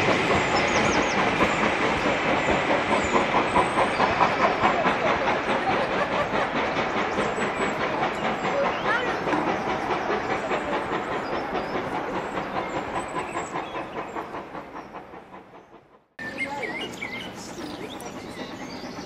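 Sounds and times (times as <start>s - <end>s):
train rhythmic beat: 0.0s - 19.0s.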